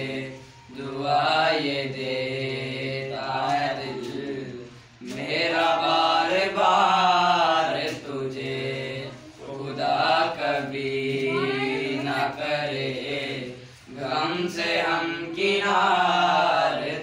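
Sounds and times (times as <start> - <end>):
boys singing unaccompanied: 0.0 - 17.0.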